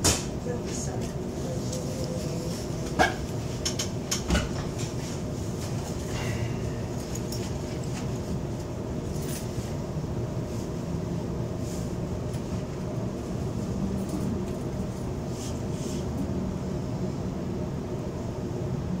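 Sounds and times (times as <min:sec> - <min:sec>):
electric train low rumble: 0:00.0 - 0:19.0.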